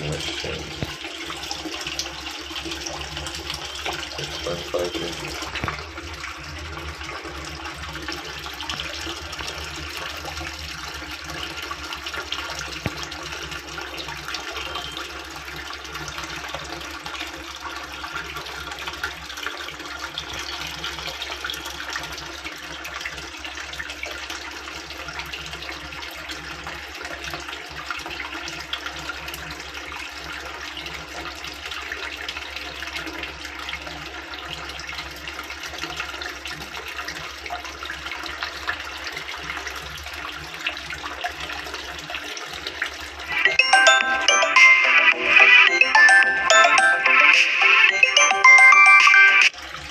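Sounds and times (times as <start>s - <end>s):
water running through washing machine: 0.0s - 43.3s, 49.6s - 49.9s.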